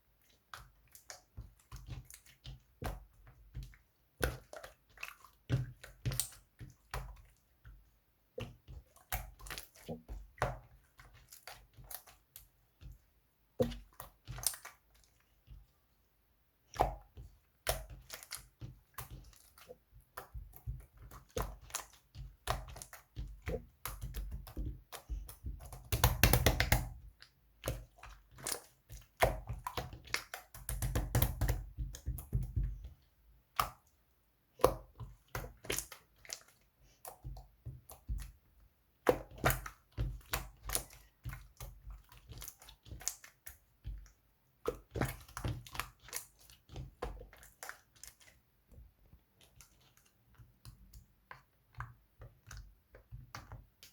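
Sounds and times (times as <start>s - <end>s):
hands squishing slime: 0.1s - 15.7s, 16.6s - 53.9s.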